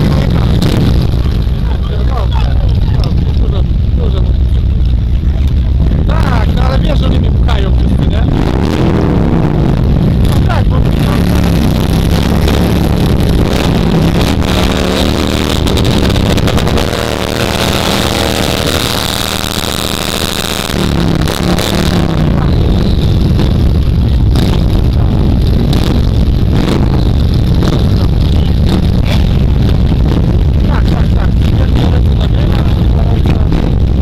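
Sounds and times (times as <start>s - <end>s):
motorcycle burnout: 0.0s - 34.0s
motorcycle engines revving: 0.0s - 34.0s.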